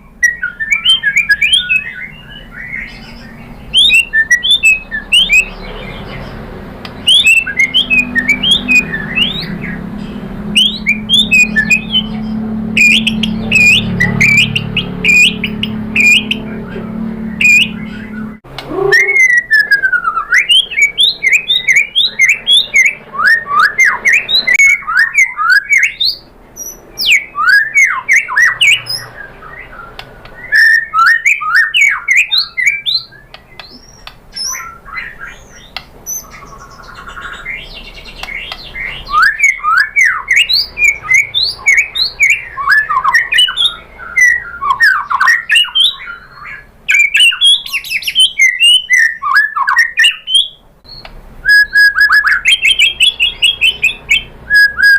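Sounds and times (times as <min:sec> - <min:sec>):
bird singing whistled notes: 0:00.0 - 0:54.9.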